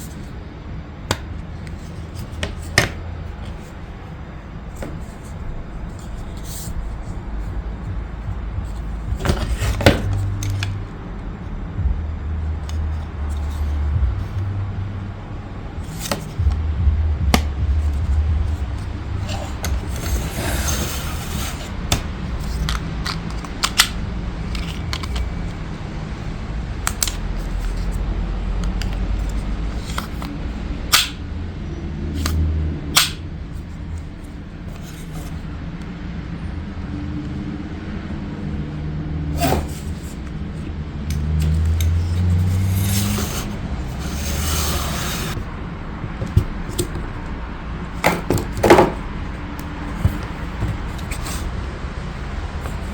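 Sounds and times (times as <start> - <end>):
low steady hum: 0.0 - 52.9.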